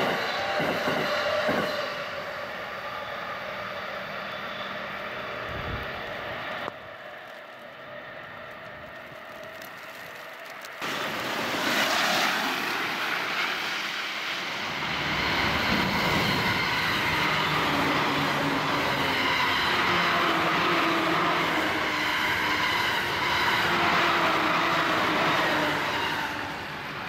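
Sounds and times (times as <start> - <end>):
electric train passing at speed: 0.0 - 27.0.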